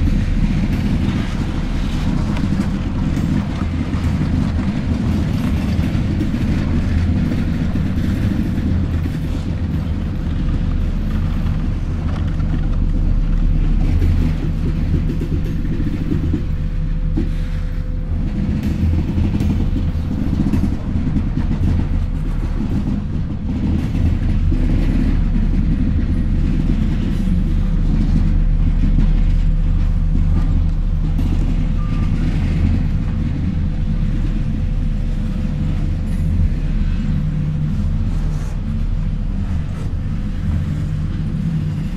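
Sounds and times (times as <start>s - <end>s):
diesel locomotive hum: 0.0s - 41.9s
train wheels rumbling: 0.0s - 41.9s
wheel clicks on rail joints: 0.0s - 41.9s.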